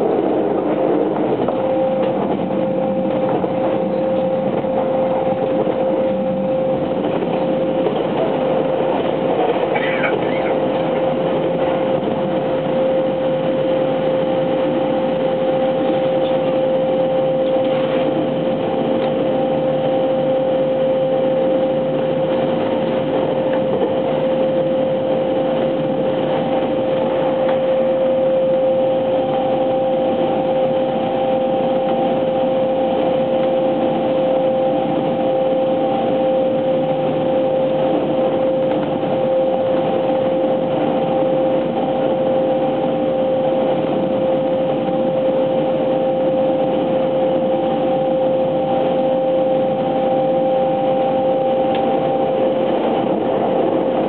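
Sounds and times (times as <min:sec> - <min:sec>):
steady train hum: 0:00.0 - 0:54.0
wheels rumbling on track: 0:00.0 - 0:54.0.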